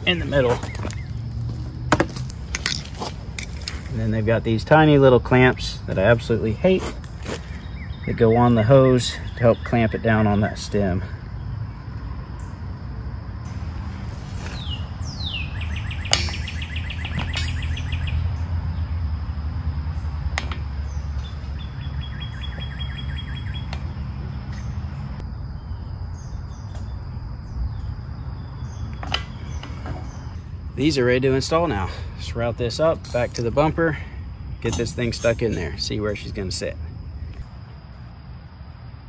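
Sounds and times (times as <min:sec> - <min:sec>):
steady low rumble: 0:00.0 - 0:22.5, 0:23.3 - 0:39.0
birds singing: 0:00.0 - 0:37.9.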